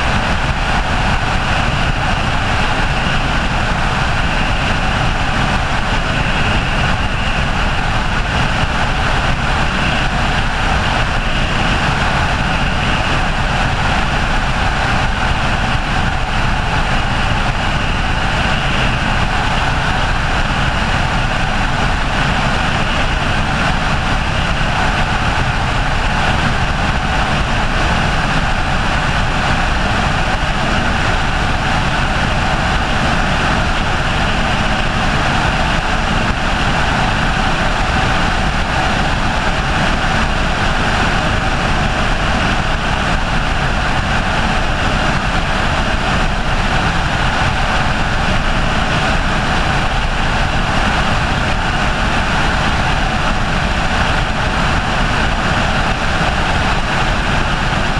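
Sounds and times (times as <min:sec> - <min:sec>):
helicopter engine and rotor: 0:00.0 - 0:57.9.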